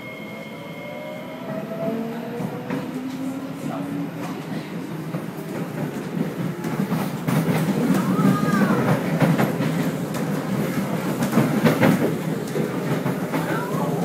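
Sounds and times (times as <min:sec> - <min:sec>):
train rumbling over rails: 0:00.0 - 0:14.0
rail clicks: 0:01.5 - 0:14.0.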